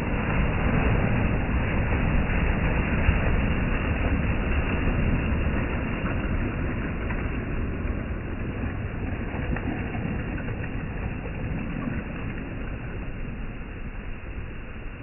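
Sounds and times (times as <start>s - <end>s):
waves washing over pebble beach: 0.0s - 15.0s.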